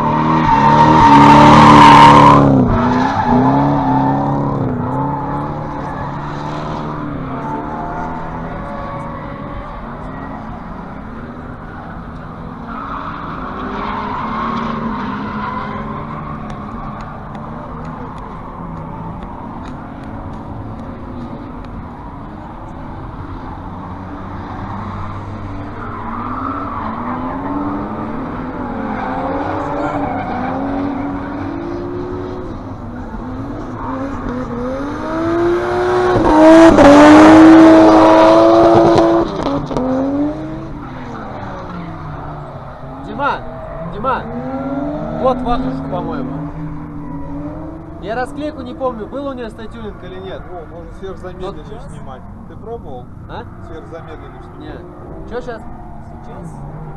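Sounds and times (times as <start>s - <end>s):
tyre screech: 0.0s - 52.4s
car engines revving: 0.0s - 56.9s.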